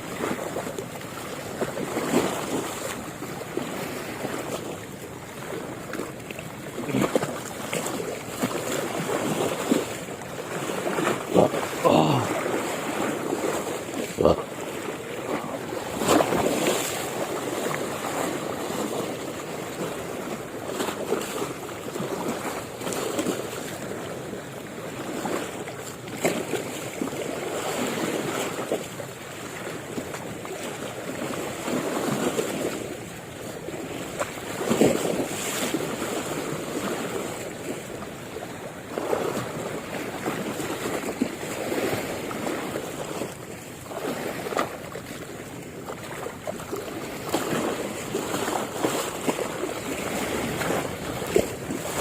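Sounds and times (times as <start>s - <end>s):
sea water lapping and splashing: 0.0s - 52.0s.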